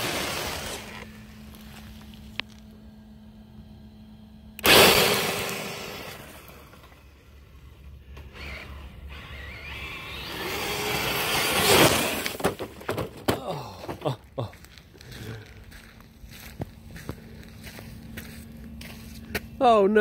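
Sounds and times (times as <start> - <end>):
faint steady hum: 0.0 - 20.0
rc truck motor and tyres on gravel: 0.0 - 20.0.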